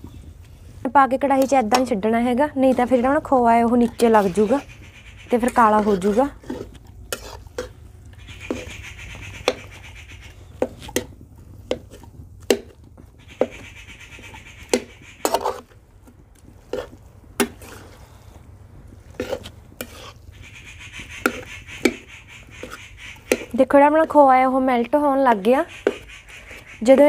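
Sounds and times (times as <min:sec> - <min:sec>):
metal spatula scraping a pan: 0:02.6 - 0:15.8, 0:16.6 - 0:27.0.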